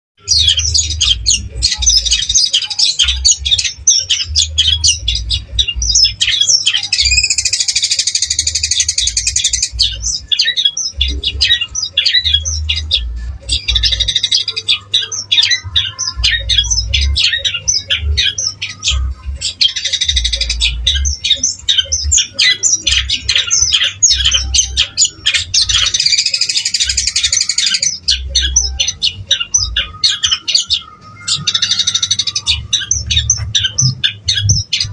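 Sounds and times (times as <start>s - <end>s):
bird singing chattering notes: 0.2s - 34.9s.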